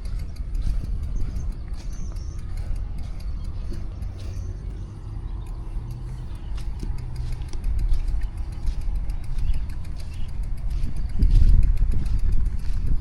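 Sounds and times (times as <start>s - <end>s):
bicycle clicking and rattling: 0.0s - 13.0s
wind and traffic rumble: 0.0s - 13.0s.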